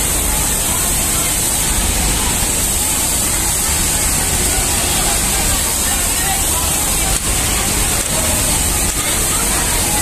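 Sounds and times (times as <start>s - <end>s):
industrial sewing machines running: 0.0s - 10.0s.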